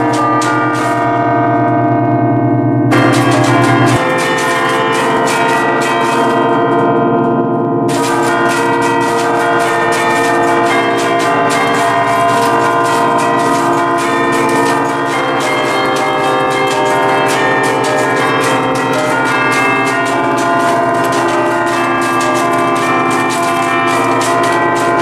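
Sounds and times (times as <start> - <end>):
bells ringing festive melody: 0.0 - 25.0.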